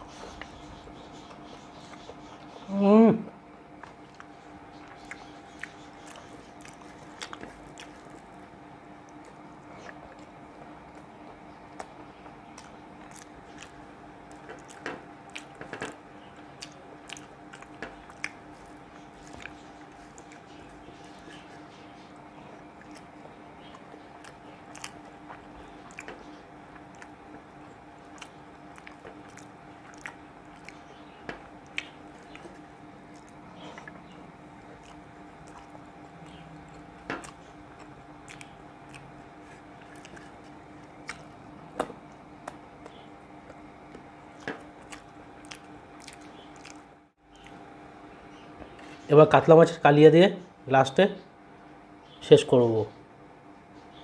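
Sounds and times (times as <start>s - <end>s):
wet chewing clicks: 3.7s - 47.7s.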